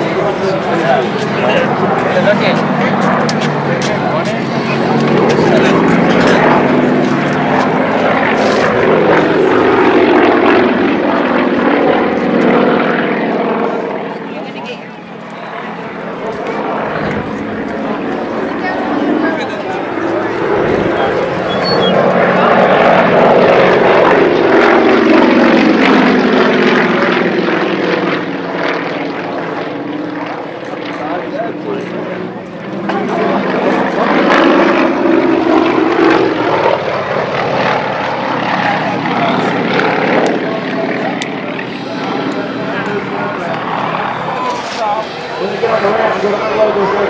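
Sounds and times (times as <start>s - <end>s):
propeller planes passing overhead: 0.0s - 47.0s.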